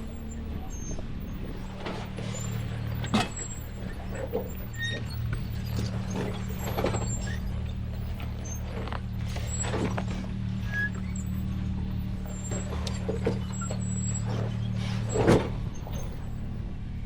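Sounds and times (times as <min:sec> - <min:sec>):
short high squeaks: 0:00.0 - 0:16.6
vehicle engine at low revs: 0:00.0 - 0:17.0.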